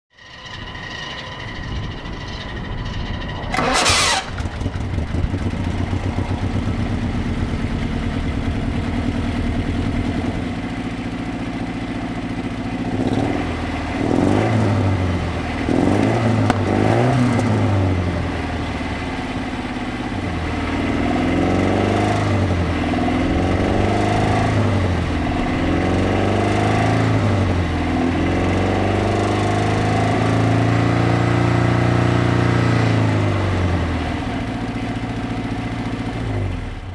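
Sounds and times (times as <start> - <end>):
car engine cranking and idling: 0.2 - 36.9
car engine revving: 1.4 - 10.4, 12.8 - 19.3, 20.0 - 36.9.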